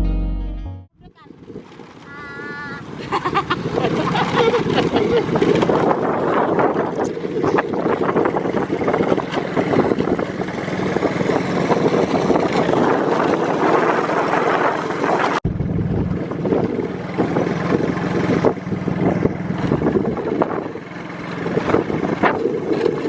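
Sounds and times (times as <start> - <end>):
engine humming: 1.9 - 23.0.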